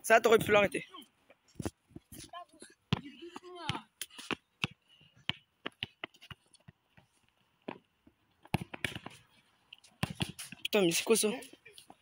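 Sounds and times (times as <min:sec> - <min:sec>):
football dribbled on dirt: 0:01.5 - 0:12.0.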